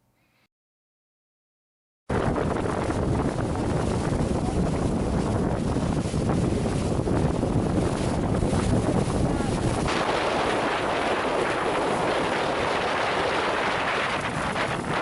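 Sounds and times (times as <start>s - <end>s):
deep rumble: 2.1s - 15.0s
wind buffeting microphone: 2.1s - 15.0s
boat engine and water hiss: 2.4s - 15.0s.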